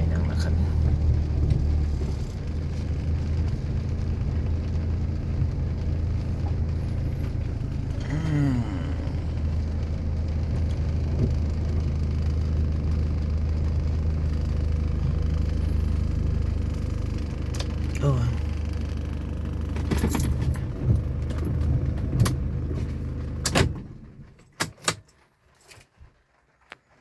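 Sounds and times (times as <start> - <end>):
car engine and tyres drone: 0.0 - 24.3.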